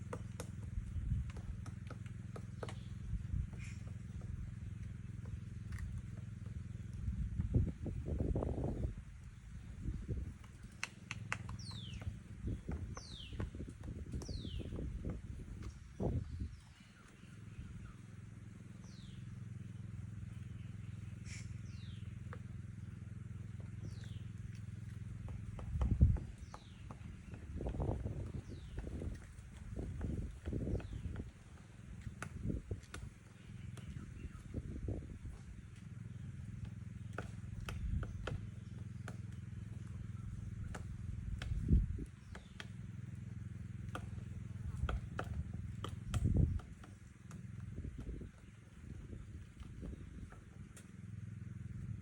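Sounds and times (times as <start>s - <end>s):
steady low hum: 0.0s - 52.0s
woodpecker tapping on wood: 0.0s - 52.0s.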